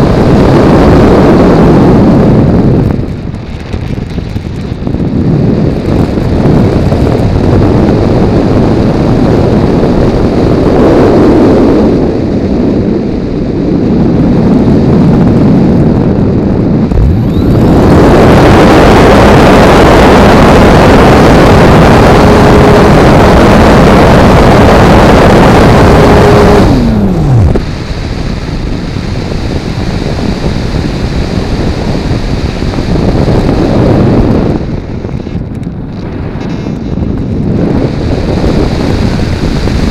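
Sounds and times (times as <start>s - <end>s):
model plane motor and propeller: 0.0s - 39.9s
wind rushing over camera: 0.0s - 39.9s.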